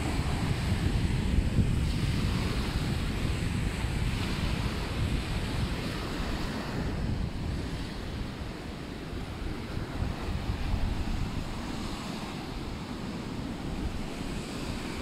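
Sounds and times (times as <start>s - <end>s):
small waves washing on sand: 0.0s - 15.0s
wind rumble on microphone: 0.0s - 15.0s.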